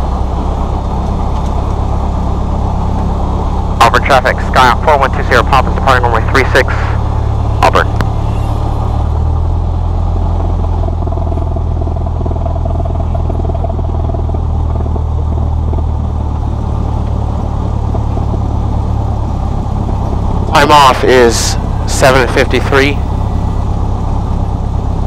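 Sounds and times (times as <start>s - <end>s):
airplane engine droning: 0.0s - 25.0s.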